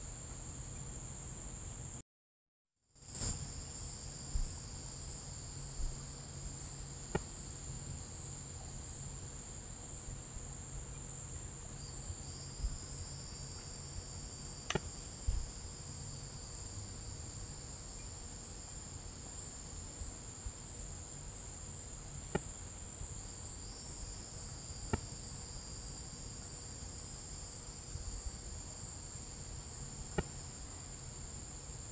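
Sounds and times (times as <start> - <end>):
high-pitched cricket trill: 2.9 - 31.9
lower insect trill: 3.0 - 31.9.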